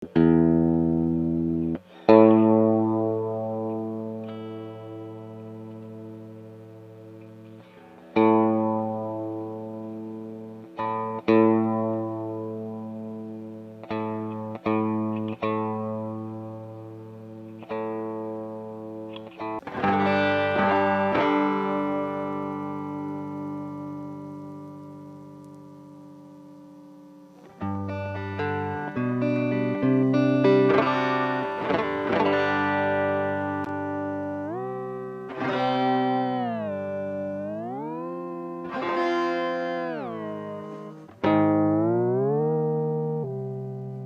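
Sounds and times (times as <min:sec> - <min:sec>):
electric guitar chords: 0:00.0 - 0:44.0
electric guitar run of notes: 0:00.0 - 0:44.0.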